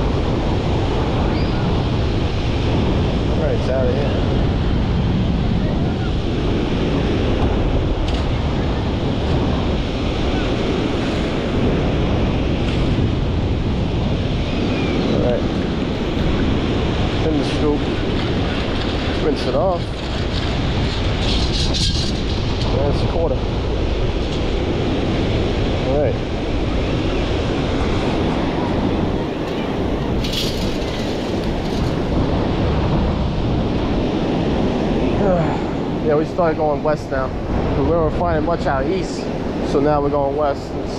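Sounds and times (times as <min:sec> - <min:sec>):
ocean surf washing: 0:00.0 - 0:40.9
wind buffeting microphone: 0:00.0 - 0:40.9.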